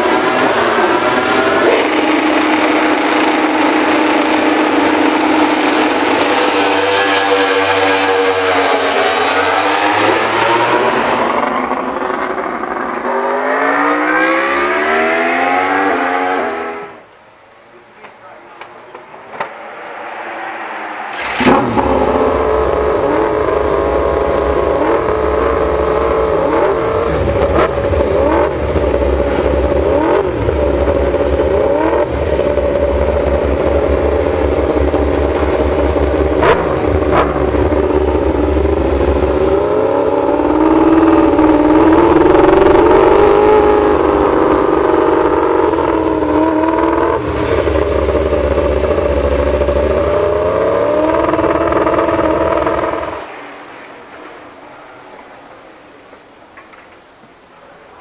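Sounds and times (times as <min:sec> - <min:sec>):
motorcycle engine revving: 0:00.0 - 0:17.0, 0:21.1 - 0:53.3.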